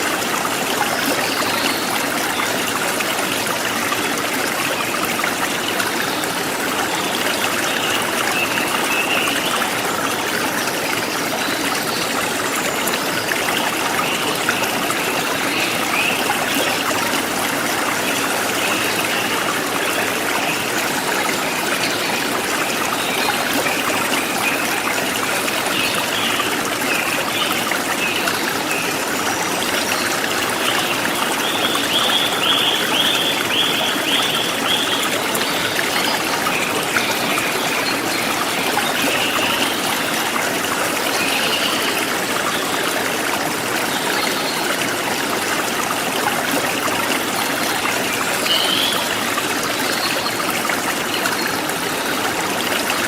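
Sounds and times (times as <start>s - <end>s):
stream flowing and trickling: 0.0s - 53.0s.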